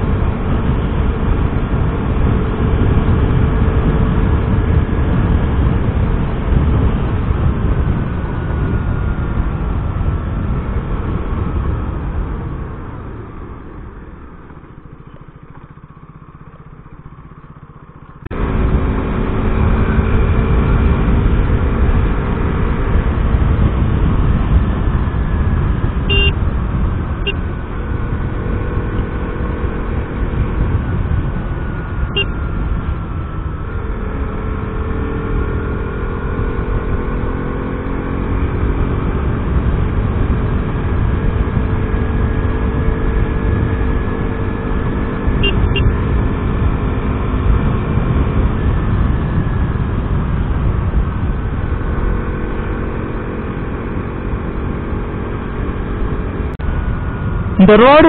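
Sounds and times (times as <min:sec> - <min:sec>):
wind rumble on microphone: 0:00.0 - 0:16.4, 0:18.3 - 0:58.0
motorcycle engine cruising: 0:00.0 - 0:58.0.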